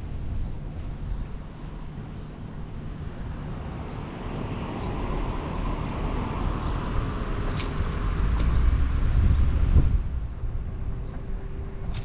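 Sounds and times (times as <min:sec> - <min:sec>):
low road rumble: 0:00.0 - 0:12.0
wind rushing over microphone: 0:00.0 - 0:12.0.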